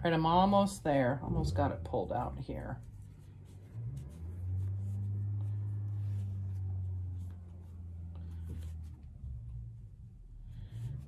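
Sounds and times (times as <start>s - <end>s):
engine revving through floor: 1.0s - 11.0s.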